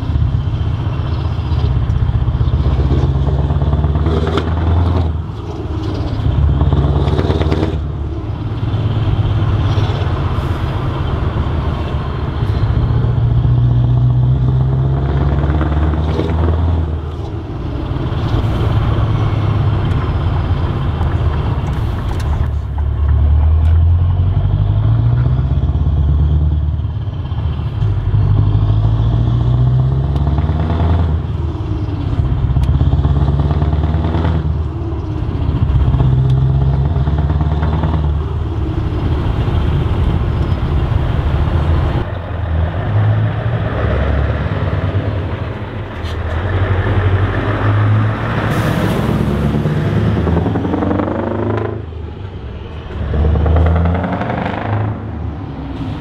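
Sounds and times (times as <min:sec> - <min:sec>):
truck diesel engine accelerating: 0:00.0 - 0:56.0.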